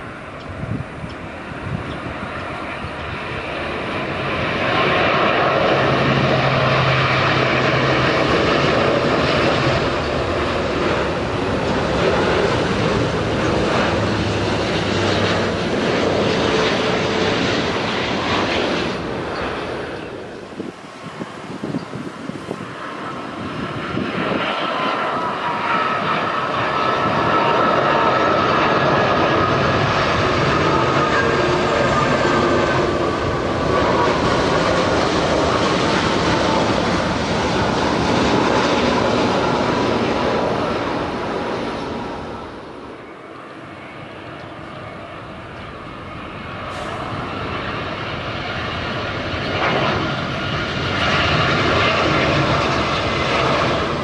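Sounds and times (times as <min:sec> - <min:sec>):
jet engines whining: 0:00.0 - 0:54.0
second jet approaching: 0:00.0 - 0:54.0.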